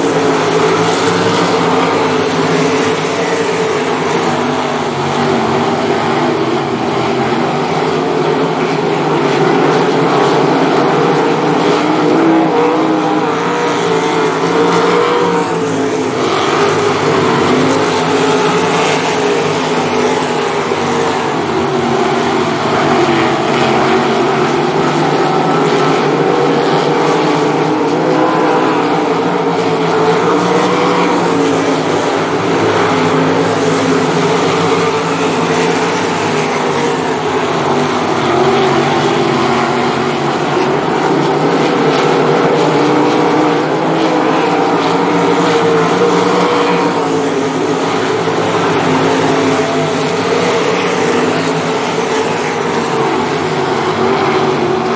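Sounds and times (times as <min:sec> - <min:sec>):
race car engines running hard: 0:00.0 - 0:54.9.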